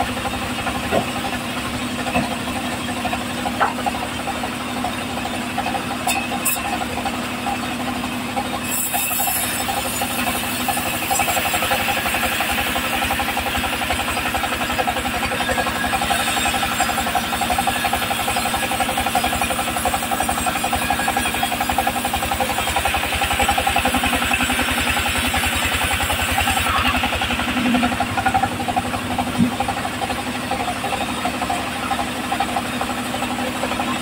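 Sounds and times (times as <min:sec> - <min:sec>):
engine drumming: 0:00.0 - 0:34.0
saw blade cutting wood: 0:00.0 - 0:34.0.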